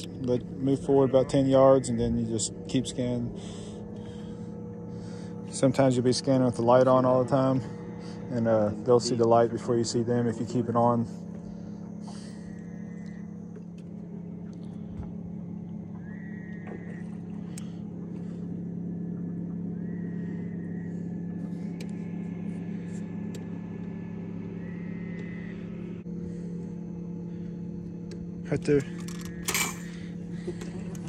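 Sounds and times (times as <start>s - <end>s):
boat engine humming: 0.0s - 31.0s.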